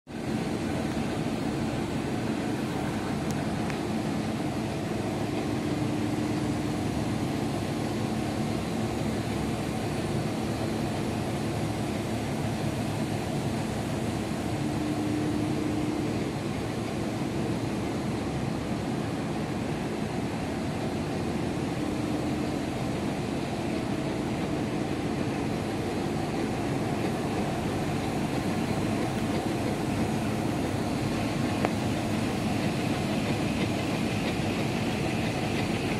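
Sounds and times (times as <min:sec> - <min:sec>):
printing machine hum: 0:00.1 - 0:35.9.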